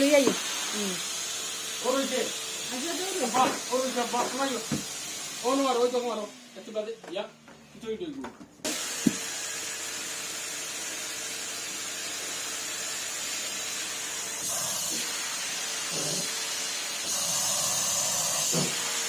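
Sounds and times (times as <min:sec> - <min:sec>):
vacuum cleaner running: 0:00.0 - 0:07.7, 0:08.6 - 0:19.0.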